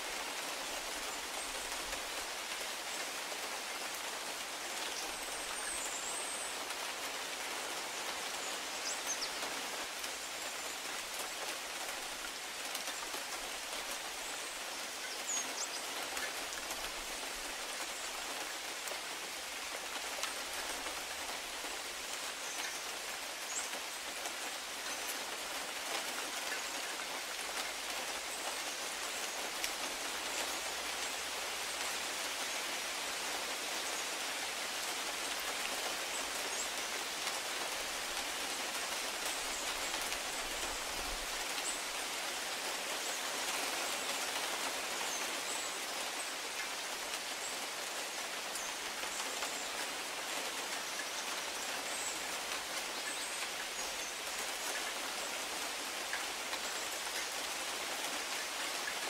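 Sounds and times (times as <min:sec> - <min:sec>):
rain falling on foliage and grass: 0:00.0 - 0:59.0.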